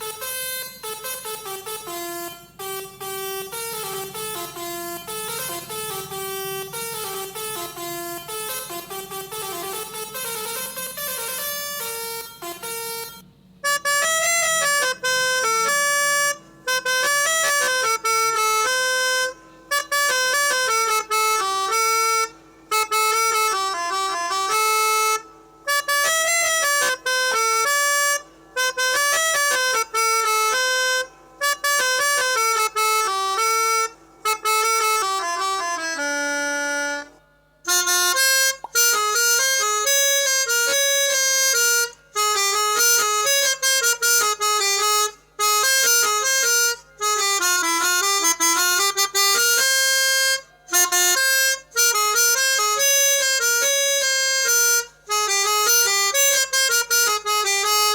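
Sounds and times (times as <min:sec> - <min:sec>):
melodica playing a tune: 0:00.0 - 0:57.9.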